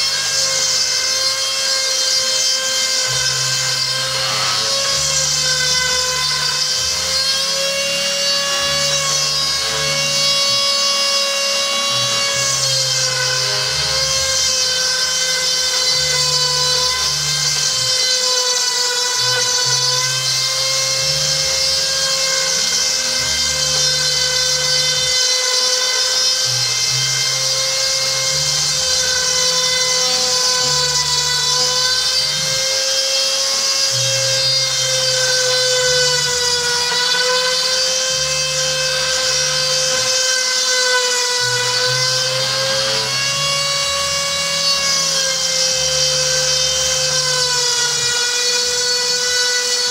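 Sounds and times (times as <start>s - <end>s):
rotary tool high-pitched whine: 0.0s - 49.9s.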